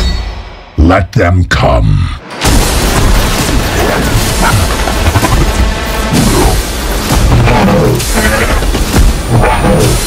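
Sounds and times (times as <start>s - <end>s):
dramatic trailer music: 0.0s - 0.8s, 1.8s - 10.0s.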